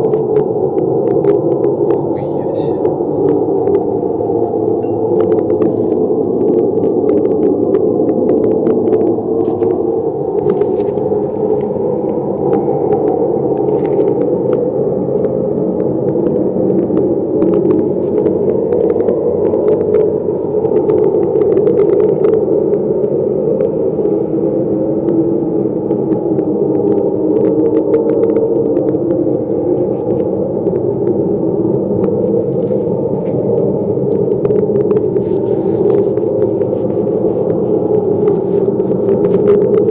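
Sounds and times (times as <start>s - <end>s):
loud low noisy drone: 0.0s - 39.9s.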